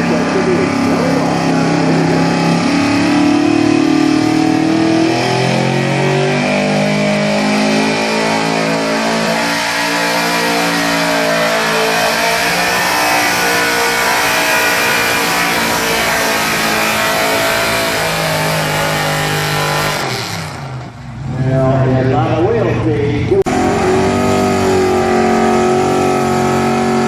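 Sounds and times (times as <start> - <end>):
pickup truck engine at high revs: 0.0 - 21.4, 23.4 - 27.0.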